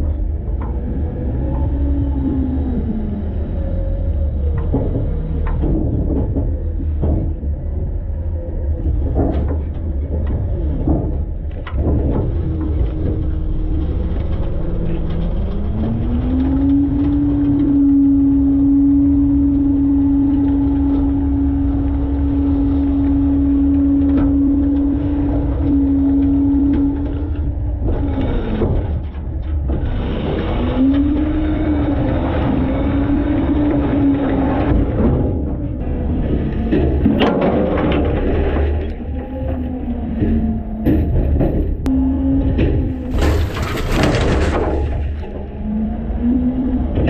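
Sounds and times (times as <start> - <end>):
truck engine rumble and revving: 0.0 - 47.0.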